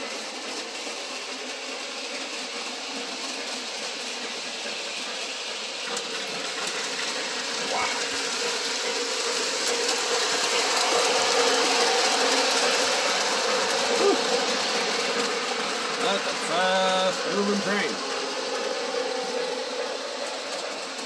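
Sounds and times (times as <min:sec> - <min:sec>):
model train clattering on track: 0:00.0 - 0:21.0.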